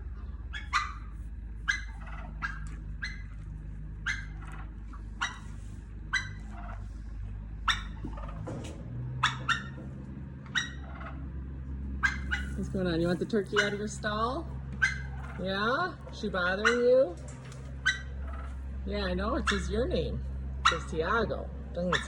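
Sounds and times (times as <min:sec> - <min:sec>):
turkey hen clucking: 0:00.0 - 0:22.0.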